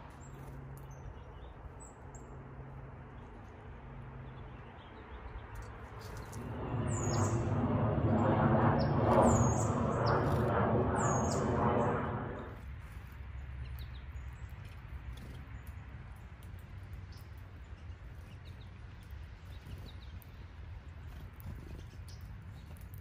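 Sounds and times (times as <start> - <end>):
small birds chirping: 0.0 - 2.4, 3.0 - 7.6, 8.7 - 23.0
low rumble with hum: 0.4 - 22.8.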